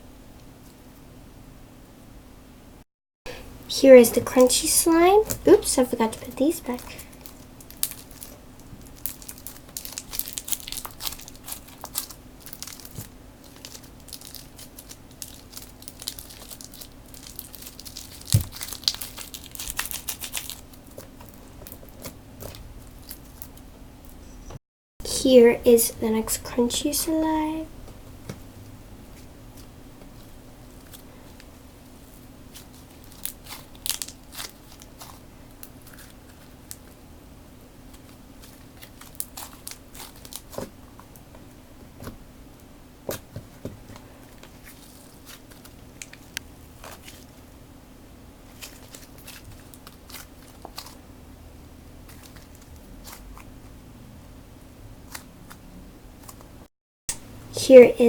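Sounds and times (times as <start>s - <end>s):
steady low hum: 0.0s - 58.0s
crunchy slime being squished: 3.8s - 24.2s, 28.2s - 53.9s, 54.6s - 56.6s.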